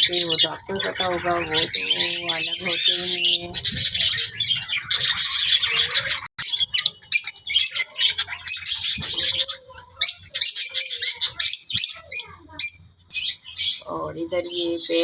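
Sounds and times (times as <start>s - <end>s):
small birds chirping and squawking: 0.0s - 15.0s.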